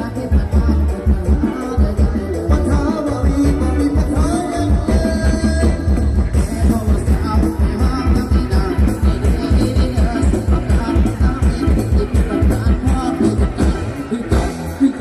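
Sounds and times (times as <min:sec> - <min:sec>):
fast heavy bass drum beat: 0:00.0 - 0:15.0
loud live rock music: 0:00.0 - 0:15.0
person singing: 0:00.0 - 0:15.0.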